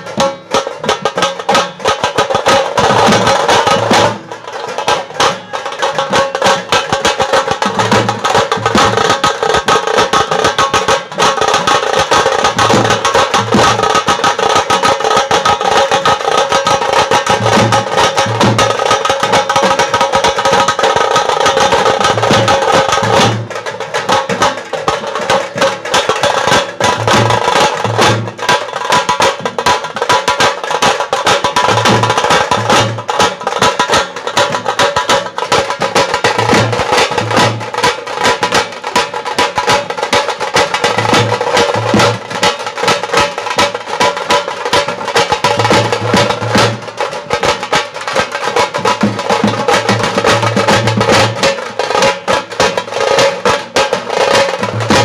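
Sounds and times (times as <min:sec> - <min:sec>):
drums in fast roll: 0:00.0 - 0:55.0.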